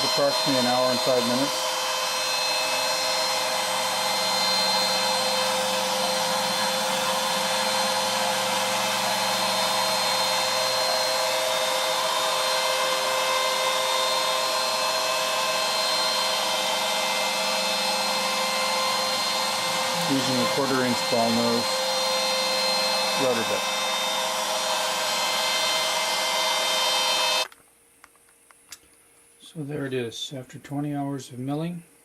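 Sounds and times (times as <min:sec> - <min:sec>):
router spindle whining: 0:00.0 - 0:27.5.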